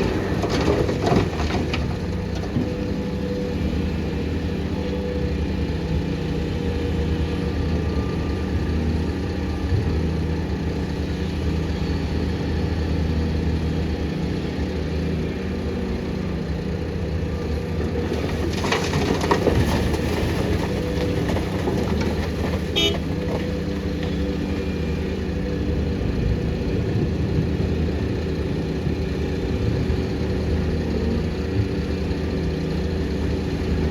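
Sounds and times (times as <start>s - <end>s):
heavy diesel engines running: 0.0s - 33.9s.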